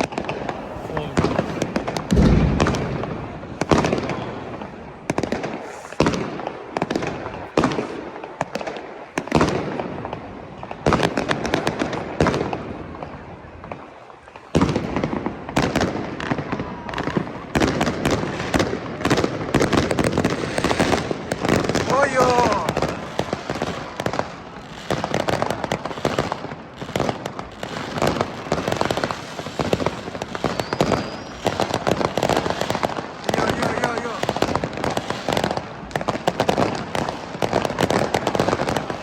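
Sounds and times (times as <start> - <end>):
firework bangs and crackles: 0.0 - 39.0
fireworks bursts: 0.0 - 39.0.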